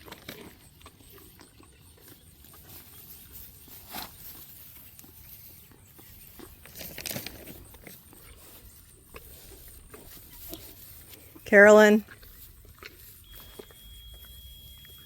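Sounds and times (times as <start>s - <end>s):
animal chewing treat: 0.0s - 11.4s, 12.0s - 15.0s.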